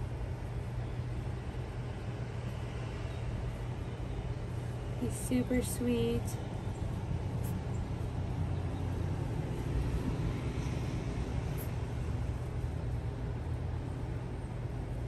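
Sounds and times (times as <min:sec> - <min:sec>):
constant hiss: 0:00.0 - 0:15.0
low hum and rumble: 0:00.0 - 0:15.0.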